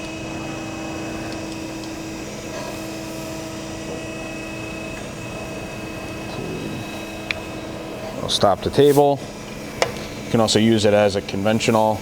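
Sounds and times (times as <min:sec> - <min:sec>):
surface grinder humming: 0:00.0 - 0:12.0.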